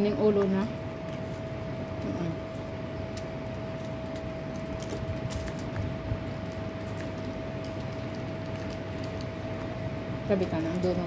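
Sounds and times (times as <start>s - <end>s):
background hum: 0.0s - 11.0s
constant high whine: 0.0s - 11.0s
fingers crinkling foil: 0.0s - 11.0s.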